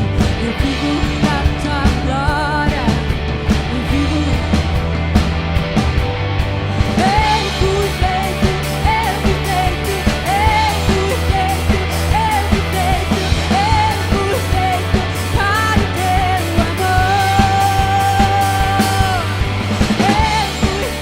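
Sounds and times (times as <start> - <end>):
drums keeping a steady beat: 0.0 - 21.0
sustained bass: 0.0 - 21.0.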